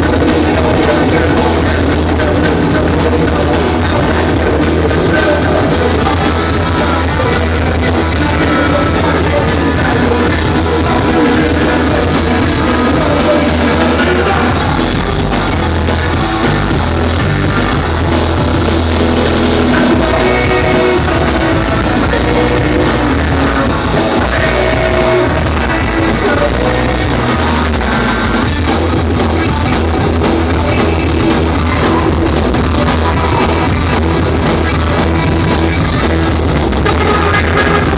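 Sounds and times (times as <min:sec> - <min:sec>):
bass guitar: 0:00.0 - 0:37.9
drum kit with cymbals: 0:00.0 - 0:37.9
electric guitar: 0:00.0 - 0:37.9.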